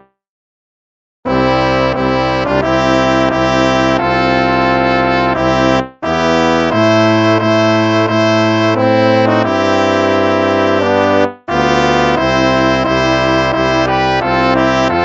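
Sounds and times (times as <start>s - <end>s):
slow brass chords: 1.3s - 15.0s.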